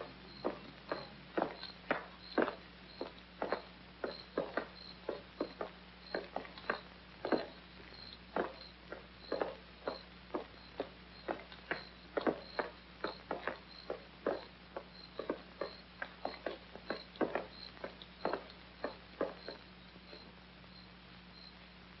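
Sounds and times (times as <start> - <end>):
footsteps on pavement: 0.0 - 20.4
crickets chirping: 0.0 - 21.6.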